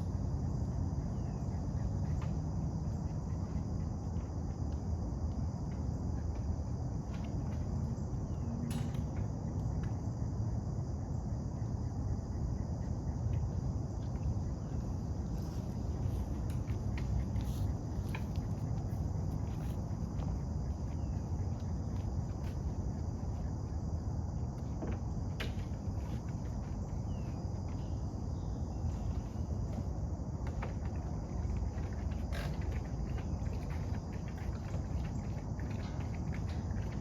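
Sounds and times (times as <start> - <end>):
high insect chorus: 0.0 - 37.0.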